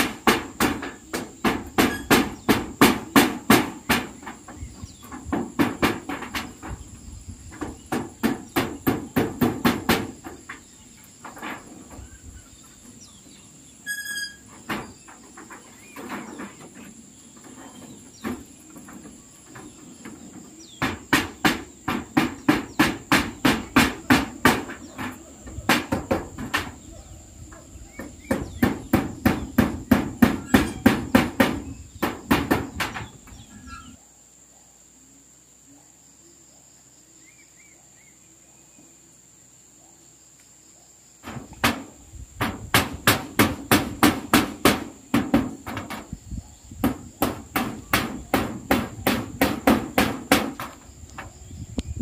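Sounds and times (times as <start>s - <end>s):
hammer nailing metal roofing: 0.0s - 12.1s, 14.1s - 34.0s, 41.2s - 51.3s
crickets trilling: 0.0s - 52.0s.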